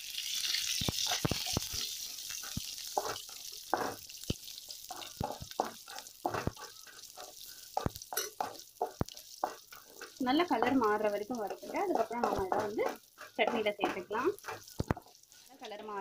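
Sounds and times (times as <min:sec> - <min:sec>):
food sizzling in hot oil: 0:00.0 - 0:16.0
wooden spatula scraping and clicking: 0:00.7 - 0:16.0.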